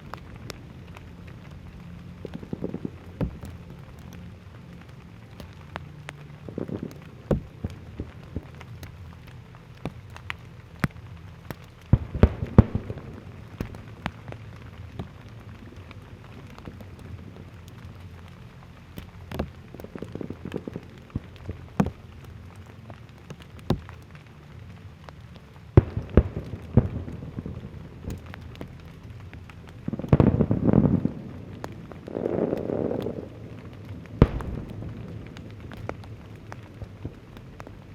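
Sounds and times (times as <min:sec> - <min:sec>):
fireworks crackling: 0:00.0 - 0:37.9.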